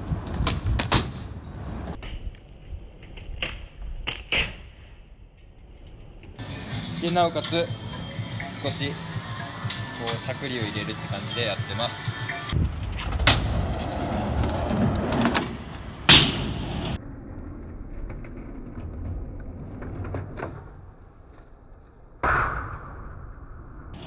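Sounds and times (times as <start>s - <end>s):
skateboard wheels rolling on concrete: 0.0s - 22.2s.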